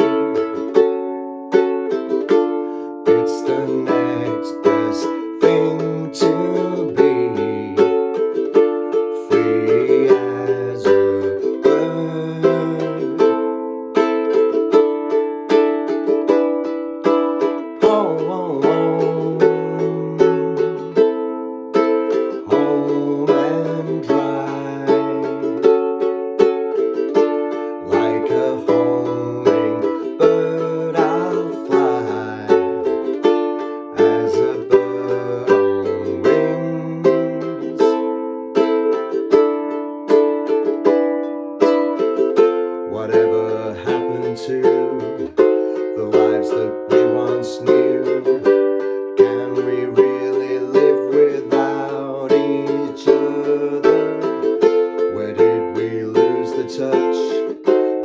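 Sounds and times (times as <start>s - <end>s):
ukulele strumming: 0.0s - 58.0s.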